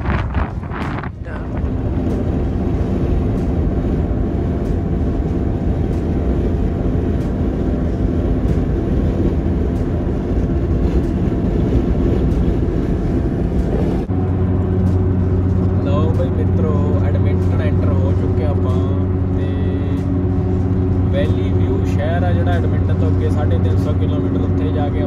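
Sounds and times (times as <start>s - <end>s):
car road rumble: 0.0s - 25.0s
faint steady drone: 0.0s - 25.0s.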